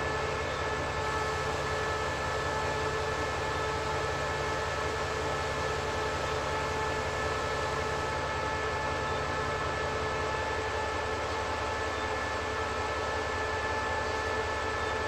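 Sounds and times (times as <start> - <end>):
high steady whine: 0.0 - 15.0
locomotive engine rumble: 0.0 - 15.0.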